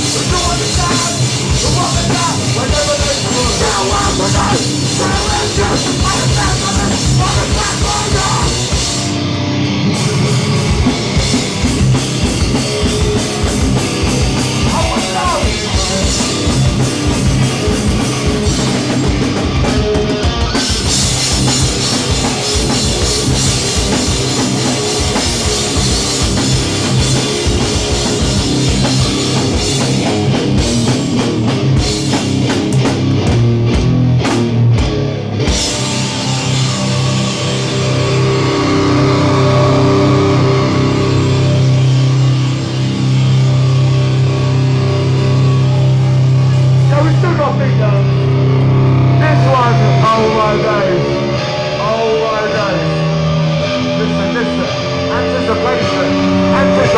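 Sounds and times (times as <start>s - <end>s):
bass guitar: 0.0s - 56.9s
distorted electric guitars: 0.0s - 56.9s
pounding drum kit: 0.0s - 56.9s.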